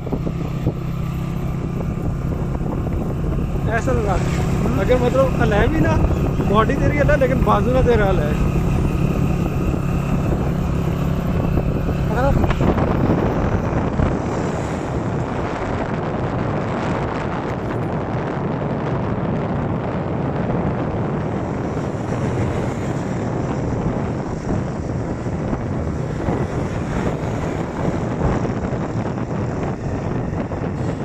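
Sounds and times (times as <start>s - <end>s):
motorcycle engine drone: 0.0s - 31.0s
wind noise on microphone: 0.0s - 31.0s.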